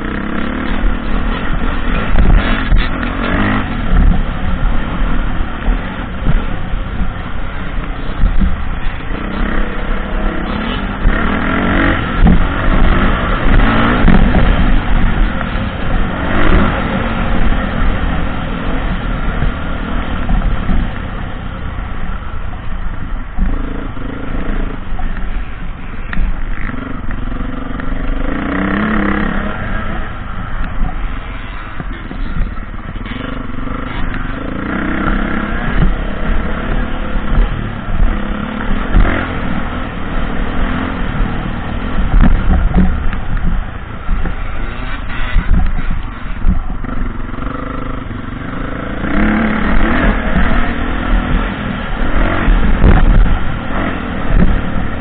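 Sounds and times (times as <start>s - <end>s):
dirt bike engine revving: 0.0s - 6.6s, 7.8s - 21.0s, 26.4s - 55.0s
low rumble of wind: 0.0s - 55.0s.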